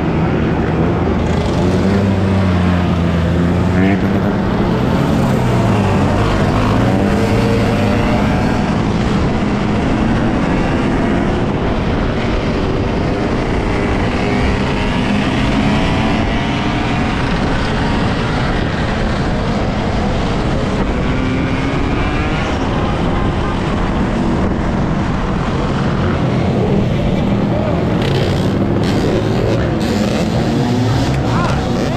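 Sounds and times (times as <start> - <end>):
off-road motorbike engine: 0.0 - 31.9
wind rush on microphone: 0.0 - 31.9.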